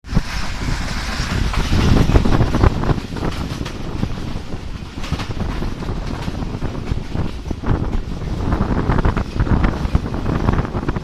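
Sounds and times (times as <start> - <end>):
train wheels rumbling on track: 0.0 - 11.0
wind buffeting microphone: 0.0 - 11.0.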